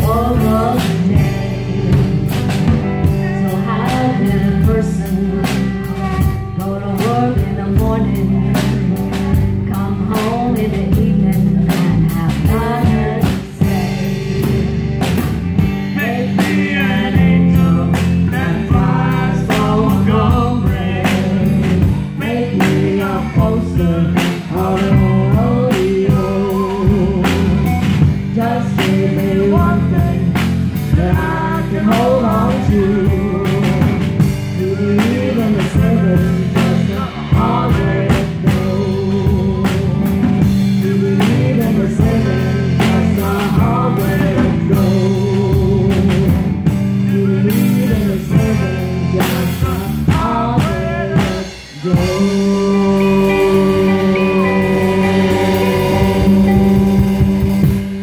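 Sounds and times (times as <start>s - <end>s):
woman singing: 0.0s - 14.6s, 16.0s - 57.9s
drum kit beat: 0.0s - 58.0s
electric guitars: 0.0s - 58.0s.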